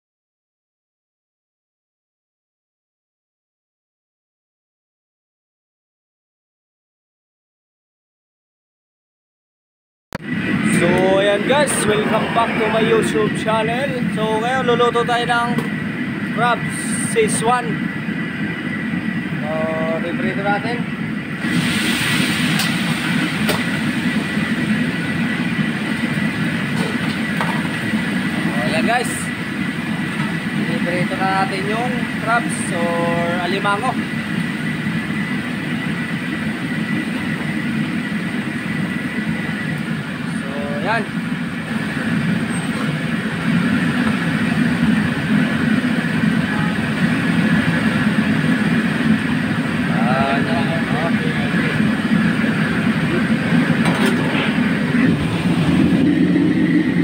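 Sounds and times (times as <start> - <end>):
low roar of wok burner: 10.2 - 57.0.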